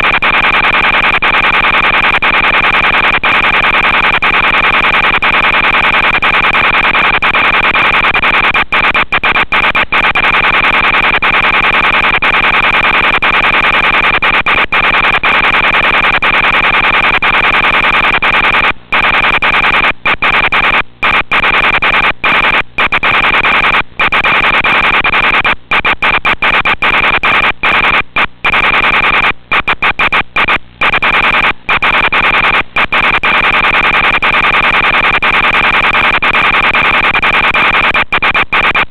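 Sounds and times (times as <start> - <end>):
static hiss with high whine: 0.0 - 38.9.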